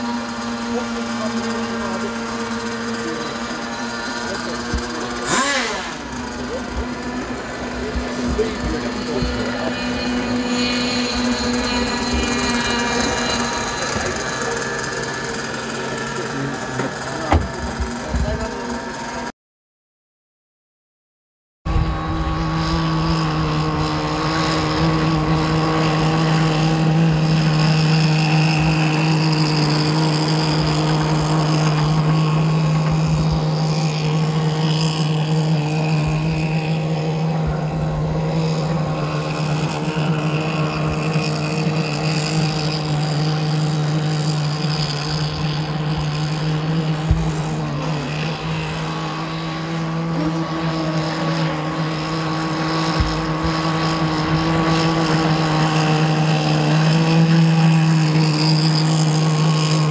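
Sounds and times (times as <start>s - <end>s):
high-pitched model boat engine drone: 0.0s - 19.3s, 21.7s - 59.9s.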